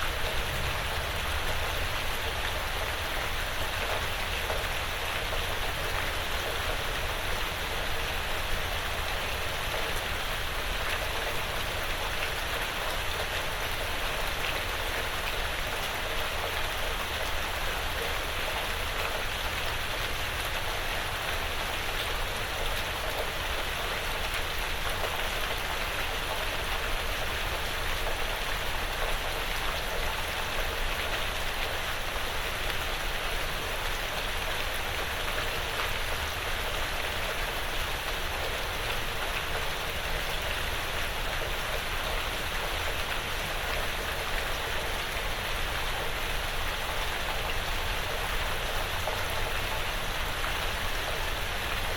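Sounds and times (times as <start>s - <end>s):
light rain pattering on roof: 0.0s - 51.9s.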